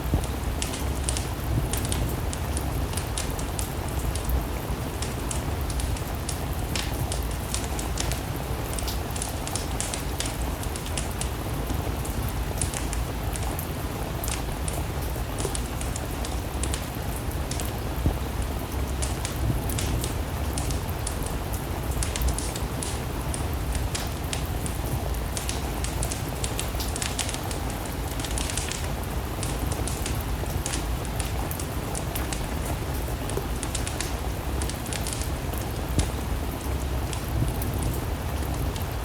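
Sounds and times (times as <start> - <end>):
steady rain: 0.0 - 39.0
wood fire crackling: 0.0 - 39.0.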